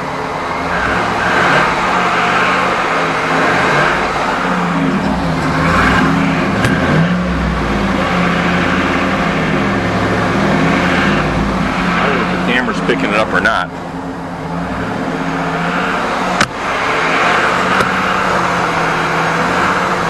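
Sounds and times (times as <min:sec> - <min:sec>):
engine running with knock: 0:00.0 - 0:20.0.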